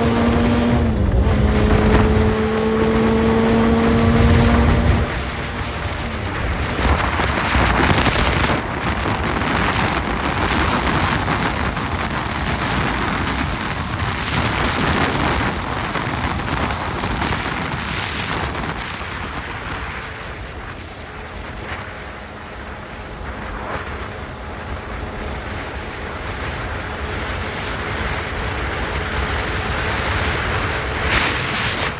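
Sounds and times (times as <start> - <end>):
faint motorcycle engine: 0.0 - 31.9
wind rushing over microphone: 0.0 - 31.9.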